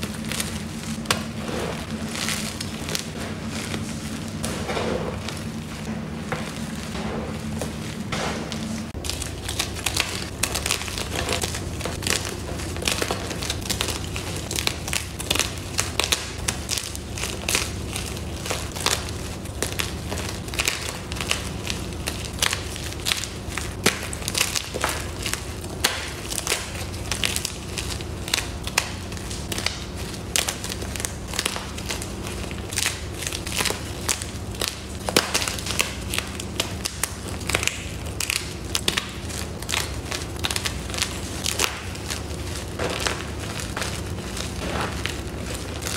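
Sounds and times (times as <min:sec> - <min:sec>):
chalk blocks crunching: 0:00.0 - 0:45.9.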